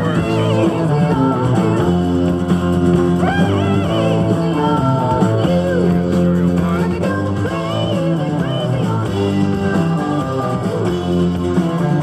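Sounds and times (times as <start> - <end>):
rock song through speakers: 0.0 - 12.0.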